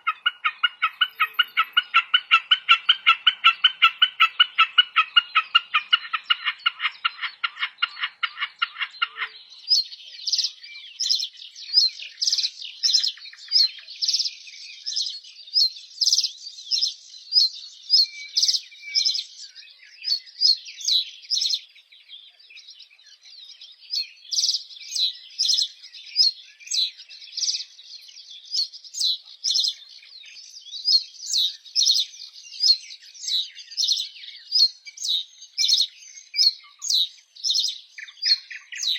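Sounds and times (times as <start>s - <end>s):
rapid repeated bird call: 0.0s - 38.9s
small birds chirping: 0.0s - 38.9s.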